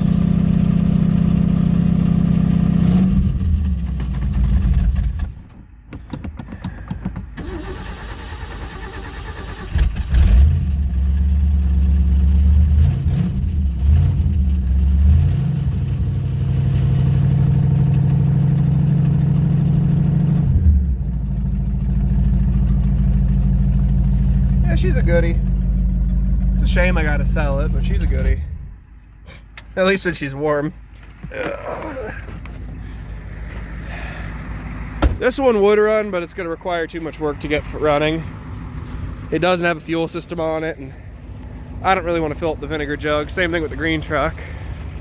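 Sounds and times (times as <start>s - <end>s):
old truck engine revving and idling: 0.0s - 5.4s, 7.4s - 28.8s, 33.5s - 45.0s.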